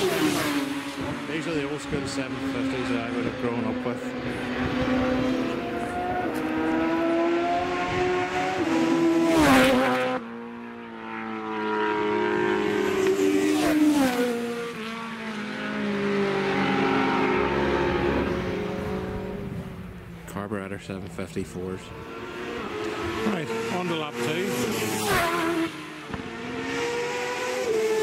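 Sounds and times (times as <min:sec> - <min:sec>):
racing motorcycles passing: 0:00.0 - 0:28.0.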